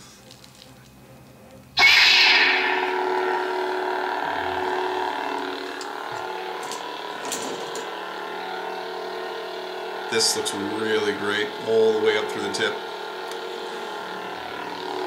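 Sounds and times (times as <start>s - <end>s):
lightsaber humming: 0.0s - 15.0s
lightsaber ignition sound: 1.8s - 15.0s.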